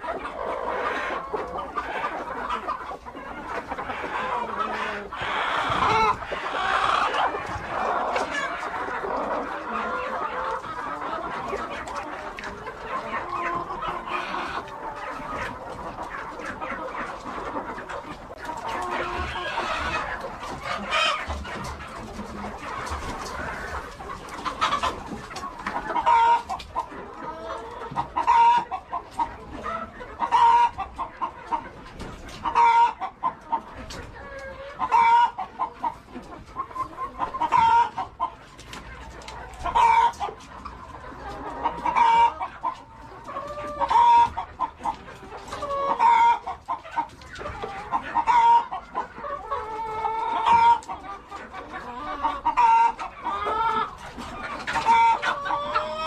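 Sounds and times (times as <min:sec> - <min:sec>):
hens clucking and cackling: 0:00.0 - 0:56.0.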